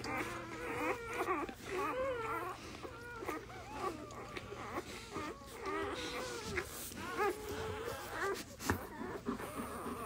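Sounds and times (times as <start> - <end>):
puppies squeaking and whimpering: 0.0 - 10.0.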